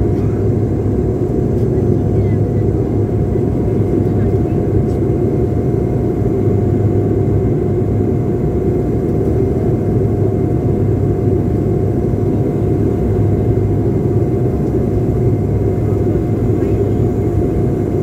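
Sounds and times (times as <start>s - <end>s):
airliner cabin engine drone: 0.0s - 18.0s.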